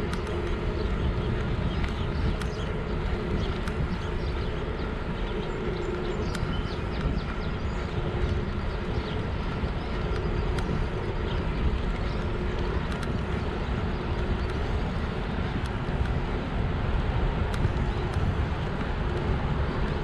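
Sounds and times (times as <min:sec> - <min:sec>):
small ticks: 0:00.0 - 0:16.7, 0:17.4 - 0:20.0
faint steady hum: 0:00.0 - 0:20.0
tyre and road noise: 0:00.0 - 0:20.0
wind buffeting microphone: 0:00.0 - 0:20.0.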